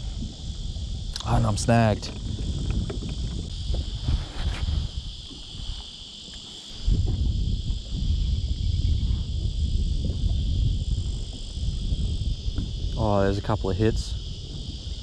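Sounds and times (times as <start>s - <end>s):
high-pitched insect drone: 0.0s - 15.0s
wind buffeting microphone: 0.0s - 15.0s.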